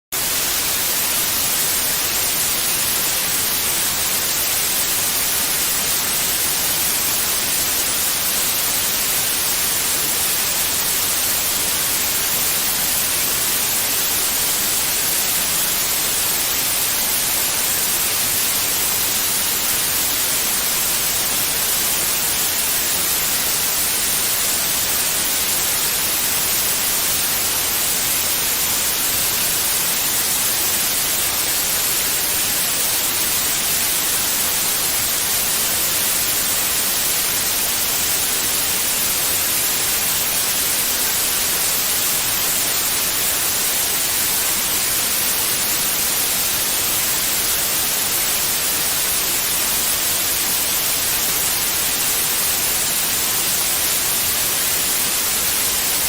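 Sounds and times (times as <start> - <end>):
white noise static: 0.1 - 56.0.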